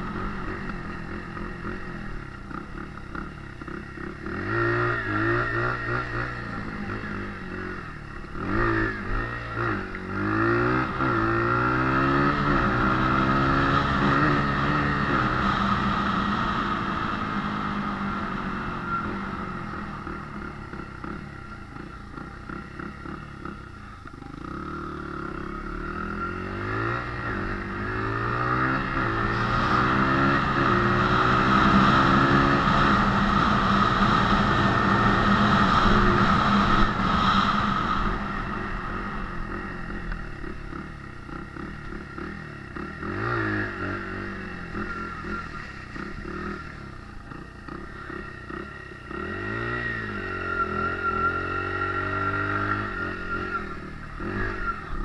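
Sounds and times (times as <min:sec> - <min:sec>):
dirt bike engine accelerating: 0:00.0 - 0:55.0.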